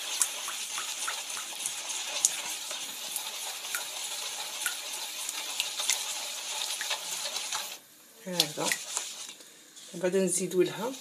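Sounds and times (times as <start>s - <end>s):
mixing batter in a bowl: 0.0s - 11.0s.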